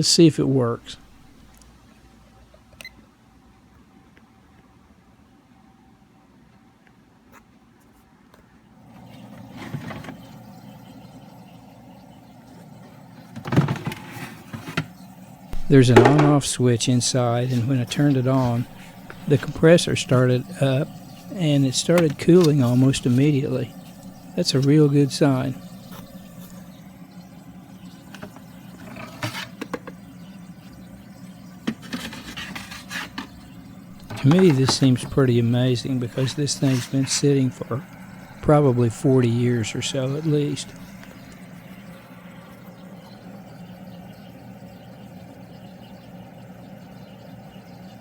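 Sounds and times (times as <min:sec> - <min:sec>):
fridge compressor humming: 0:00.0 - 0:01.6, 0:08.7 - 0:48.0.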